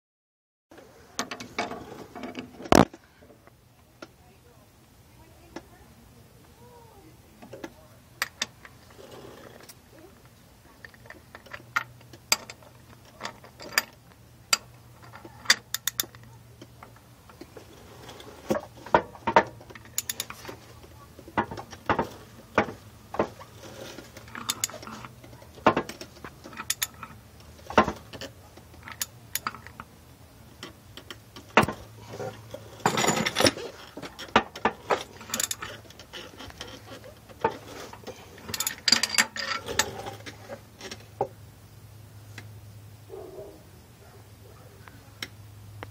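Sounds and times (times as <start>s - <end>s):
engine running with low hum: 0.7s - 45.9s.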